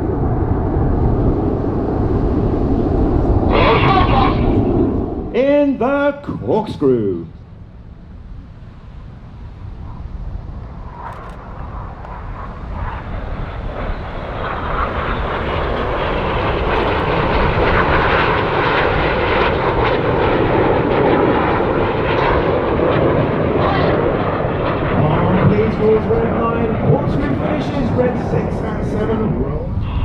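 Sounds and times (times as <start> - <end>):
jets flying past: 0.0 - 30.0.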